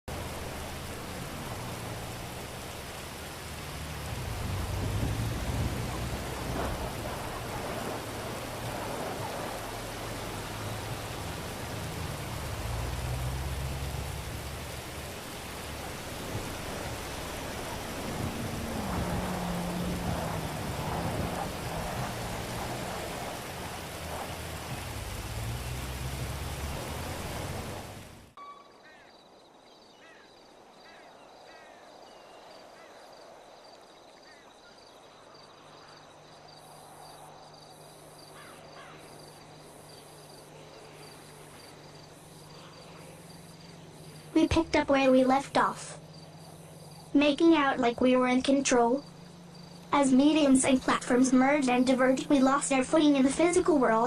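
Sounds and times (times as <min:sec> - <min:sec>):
steady rain: 0:00.0 - 0:28.4, 0:30.8 - 0:54.0.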